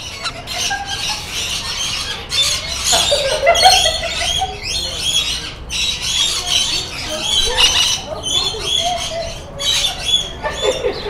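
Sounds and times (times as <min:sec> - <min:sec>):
lorikeets screeching and chattering: 0:00.0 - 0:11.0.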